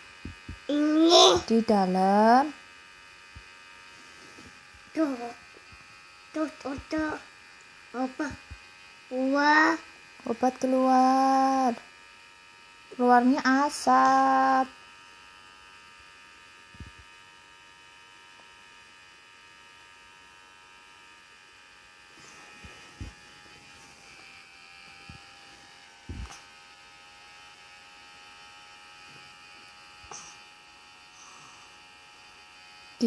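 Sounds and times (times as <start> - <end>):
nebulizer buzzing hum: 0.0 - 33.0.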